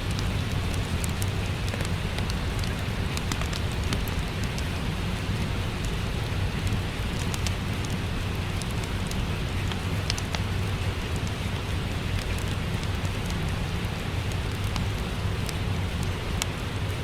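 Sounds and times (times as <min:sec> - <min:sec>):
fireplace crackling: 0:00.0 - 0:17.0
low steady rumble: 0:00.0 - 0:17.0
steady rain: 0:00.0 - 0:17.0.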